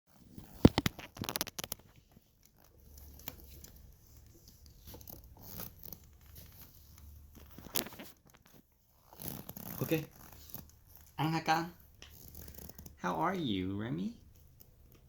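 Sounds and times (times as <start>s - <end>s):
handling rustling: 0.1s - 13.4s, 14.1s - 15.0s.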